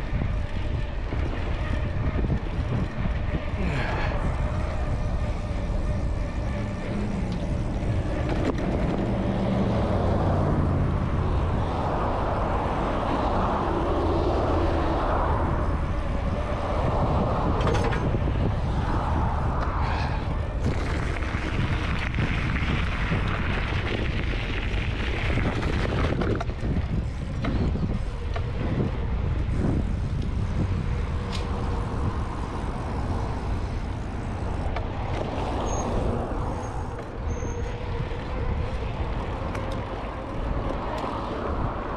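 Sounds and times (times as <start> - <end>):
passing vehicle engine: 0.0 - 41.9
road traffic passing: 0.0 - 41.9
wind rushing over microphone: 0.0 - 41.9.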